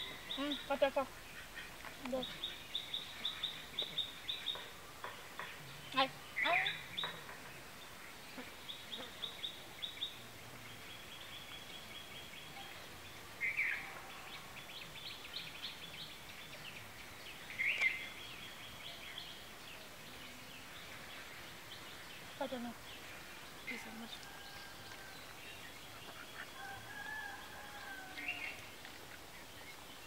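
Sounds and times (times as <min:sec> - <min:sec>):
birds chattering: 0:00.0 - 0:12.6, 0:13.4 - 0:30.0.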